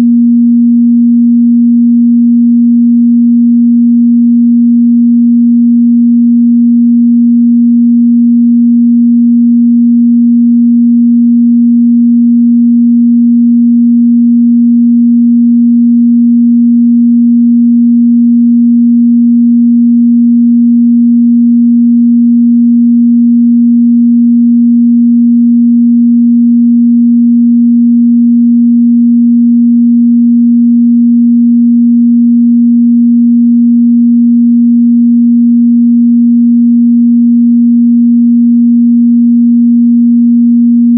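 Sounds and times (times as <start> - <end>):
pure sine test tone: 0.0 - 40.9.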